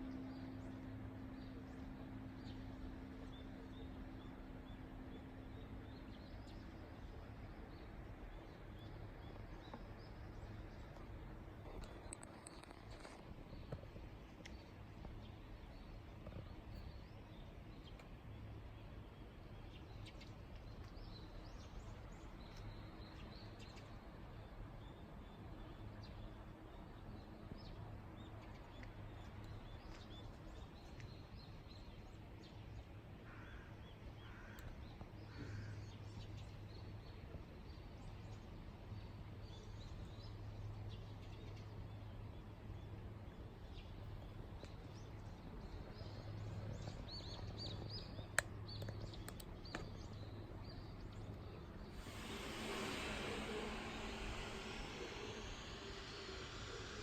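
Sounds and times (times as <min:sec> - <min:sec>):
low steady hum: 0:00.0 - 0:33.2, 0:35.8 - 0:57.0.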